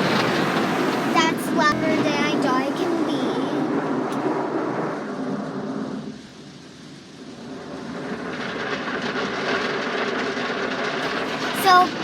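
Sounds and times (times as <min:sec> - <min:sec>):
car wash equipment rumbling: 0:00.0 - 0:12.0.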